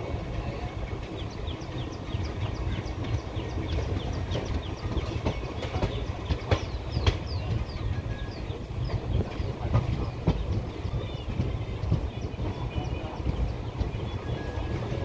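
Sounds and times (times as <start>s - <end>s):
train wheels rumbling: 0.0s - 15.0s
wheels clicking over rail joints: 0.4s - 15.0s.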